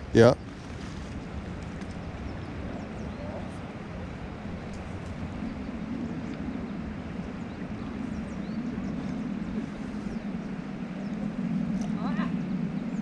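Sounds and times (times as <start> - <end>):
low rumbling outdoor noise: 0.0 - 13.0.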